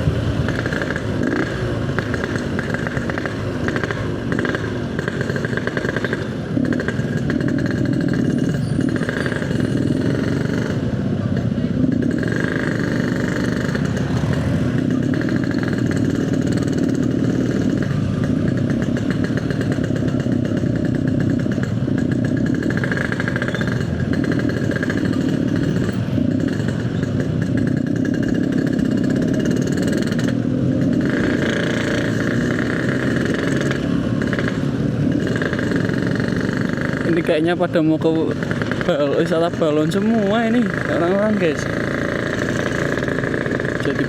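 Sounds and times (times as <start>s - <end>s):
two-stroke motorcycle engine: 0.0s - 44.0s.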